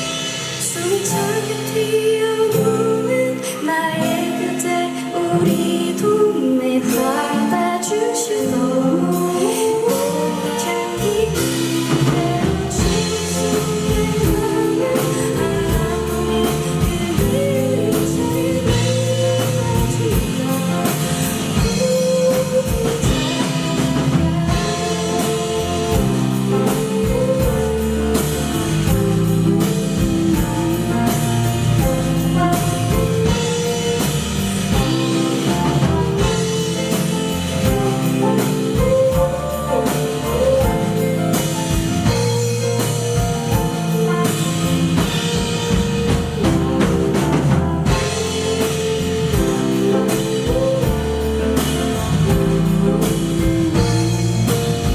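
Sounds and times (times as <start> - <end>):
bass: 0.0 - 54.9
drums: 0.0 - 54.9
guitar: 0.0 - 54.9
person singing: 0.0 - 54.9.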